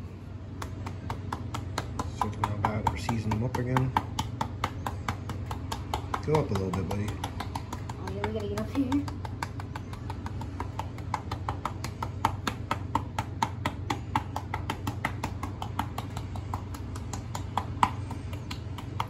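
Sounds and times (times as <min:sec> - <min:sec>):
hand tapping seasoning container: 0:00.4 - 0:19.0.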